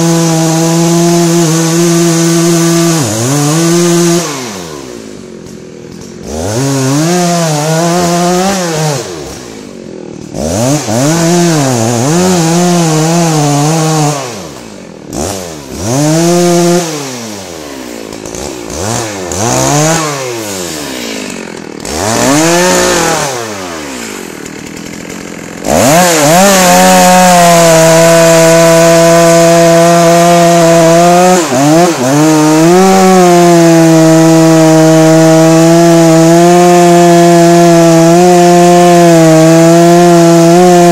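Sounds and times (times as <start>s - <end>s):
chainsaw revving and cutting: 0.0s - 40.9s.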